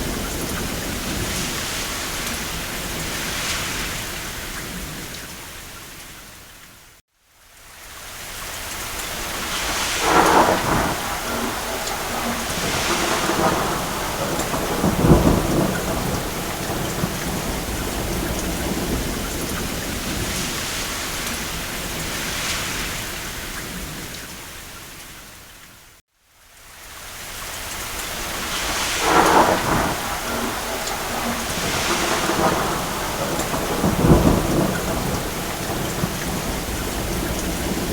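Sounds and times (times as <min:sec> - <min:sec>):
thunder rumbling: 0:00.0 - 0:05.4, 0:09.0 - 0:24.2, 0:28.0 - 0:37.9
steady rain: 0:00.0 - 0:37.9.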